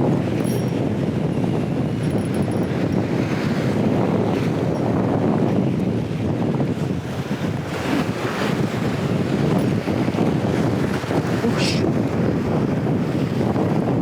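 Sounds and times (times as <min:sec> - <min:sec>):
surf washing against shore: 0:00.0 - 0:14.0
wind buffeting microphone: 0:00.0 - 0:14.0.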